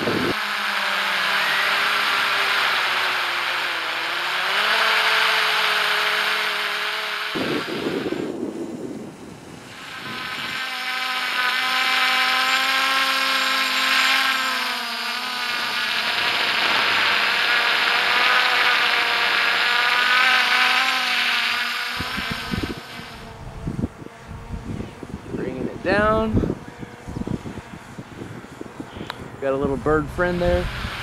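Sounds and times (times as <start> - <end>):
quadcopter propellers whining: 0.0 - 31.0.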